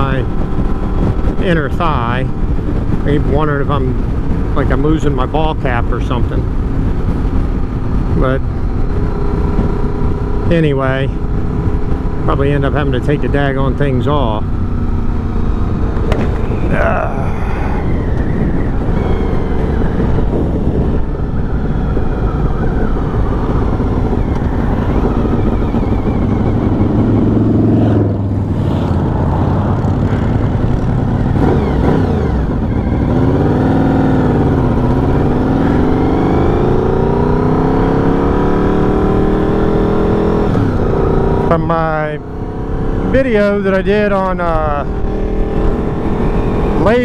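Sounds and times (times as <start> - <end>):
motorcycle engine revving: 0.0 - 47.0
wind rush: 0.0 - 47.0.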